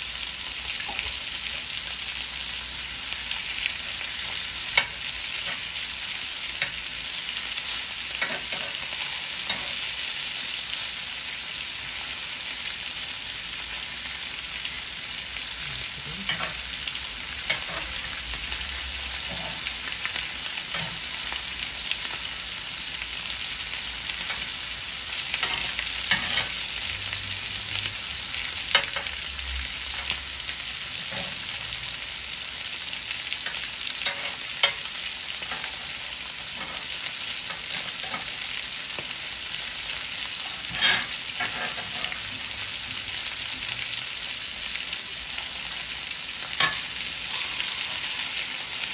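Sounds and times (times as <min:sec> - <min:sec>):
steaks sizzling in pan: 0:00.0 - 0:48.9.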